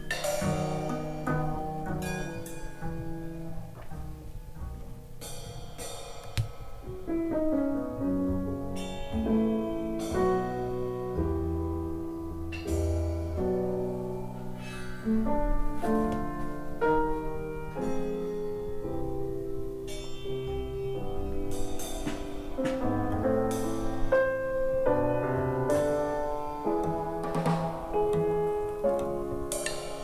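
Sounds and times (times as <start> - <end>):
piano music over loudspeakers: 0.0 - 30.0.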